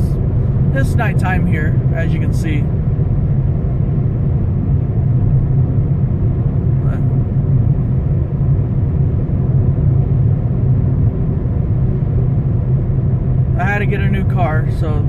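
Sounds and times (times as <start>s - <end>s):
car road and engine drone: 0.0s - 15.0s.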